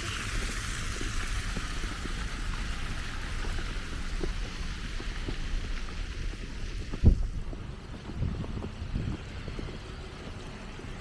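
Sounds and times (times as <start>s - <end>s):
slushy street traffic: 0.0s - 11.0s
wind: 0.0s - 11.0s.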